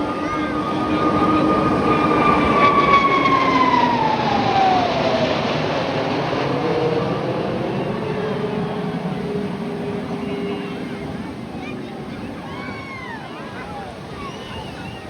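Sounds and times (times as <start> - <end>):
jet engine roaring past: 0.0 - 15.0.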